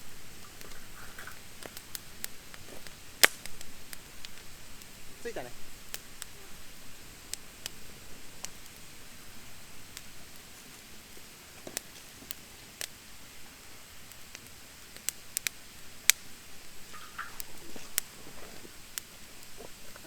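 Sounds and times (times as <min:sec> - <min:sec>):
faint steady hiss: 0:00.0 - 0:20.0
wood fire crackling and popping: 0:00.0 - 0:20.0.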